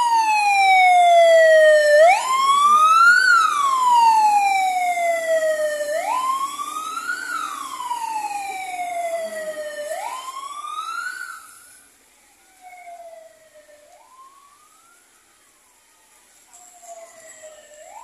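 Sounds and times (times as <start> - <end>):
ambulance siren wailing: 0.0 - 18.0.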